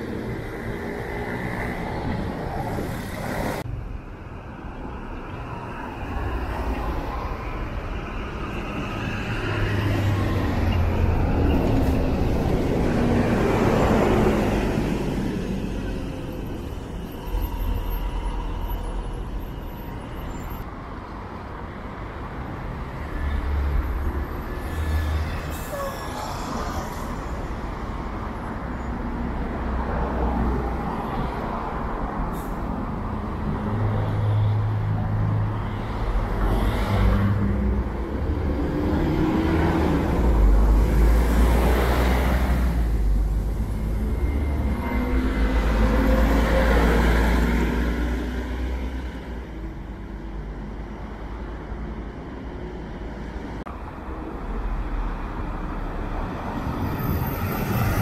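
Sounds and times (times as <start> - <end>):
bus engines rumbling: 0.0 - 58.0
road traffic: 0.0 - 58.0.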